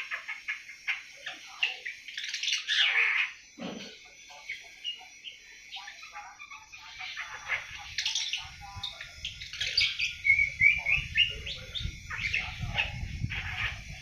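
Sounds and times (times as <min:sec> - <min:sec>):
young bird twittering chirps: 0:00.0 - 0:14.0.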